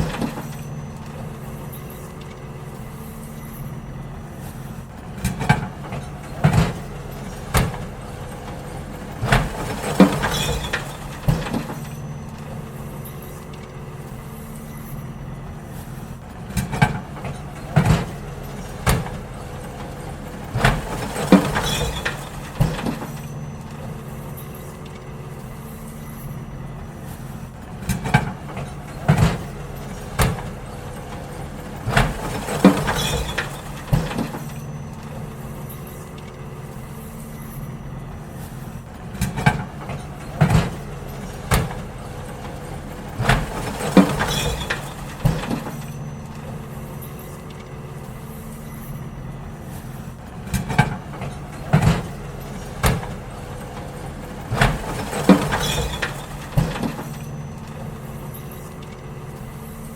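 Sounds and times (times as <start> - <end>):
garbage truck engine idling: 0.0 - 59.9
bins clattering and banging: 4.4 - 59.9.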